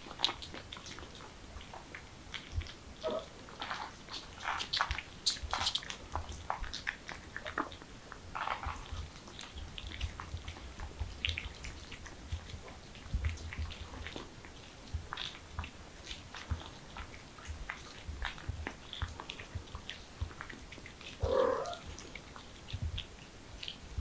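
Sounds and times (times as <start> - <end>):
kittens lapping and chewing: 0.0 - 24.0.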